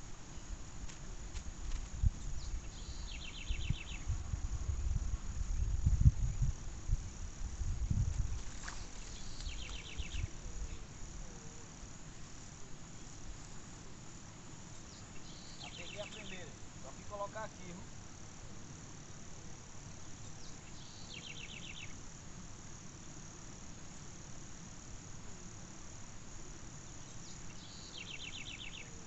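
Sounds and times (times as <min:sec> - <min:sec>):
insect pulsed trill: 0:00.0 - 0:29.0
insects buzzing: 0:00.0 - 0:29.0.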